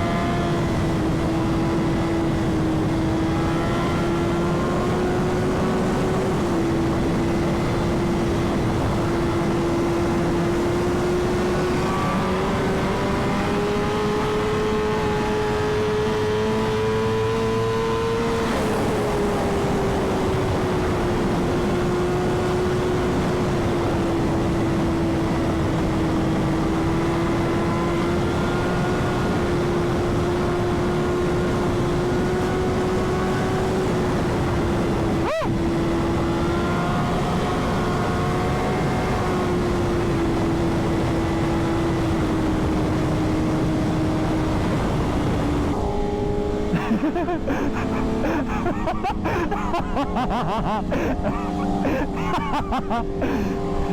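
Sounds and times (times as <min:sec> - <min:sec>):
motorcycle engine at high revs: 0:00.0 - 0:53.9
wind rush on microphone: 0:00.0 - 0:53.9.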